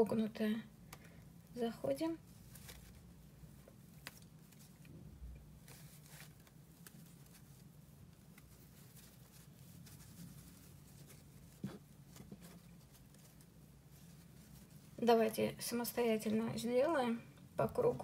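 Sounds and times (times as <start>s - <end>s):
low room hum: 0.0s - 18.0s
yarn rustling: 0.7s - 18.0s.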